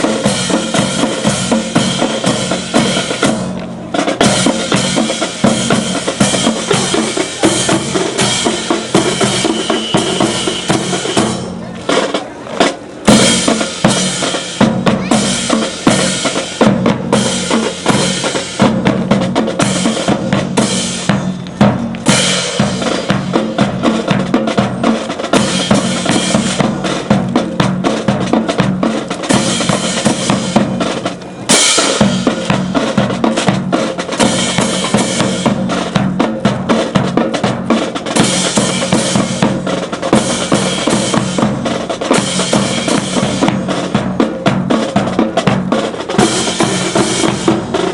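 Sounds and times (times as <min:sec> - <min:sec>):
bass drum beat: 0:00.0 - 0:12.0, 0:13.0 - 0:31.0, 0:31.8 - 0:47.9
snare drum beat: 0:00.0 - 0:31.1, 0:31.7 - 0:47.9.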